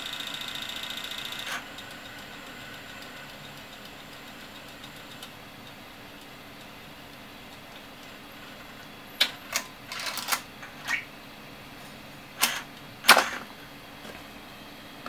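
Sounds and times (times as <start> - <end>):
tape drive clicks and clunks: 0.1 - 11.1, 12.4 - 14.2.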